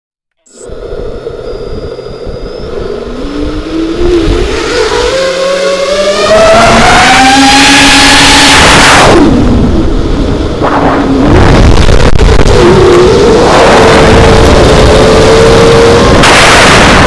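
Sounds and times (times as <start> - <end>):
drone motors and propellers whining: 0.4 - 17.0.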